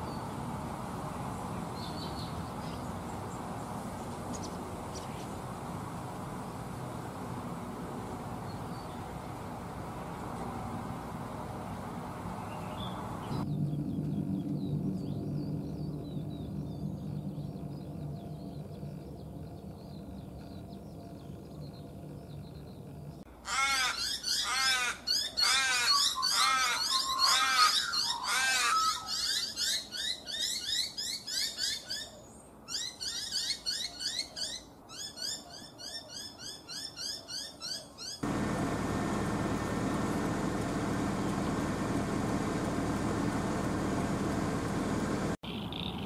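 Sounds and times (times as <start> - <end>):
wild birds chirping: 0.0 - 46.0.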